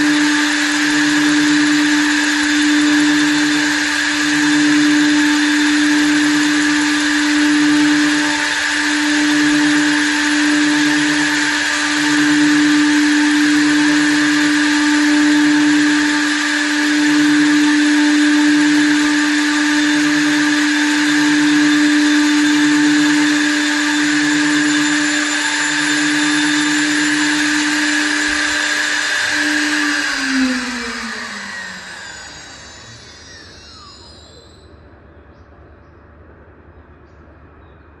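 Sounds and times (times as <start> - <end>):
regular pulsing: 0.0 - 34.8
wood lathe motor whine: 0.0 - 35.0.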